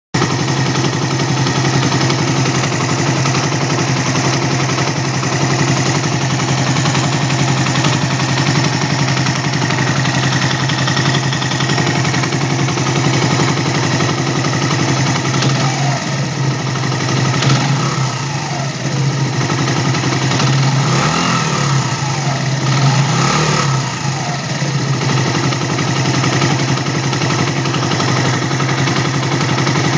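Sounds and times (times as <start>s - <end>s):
motorcycle engine idling and revving: 0.2s - 29.9s.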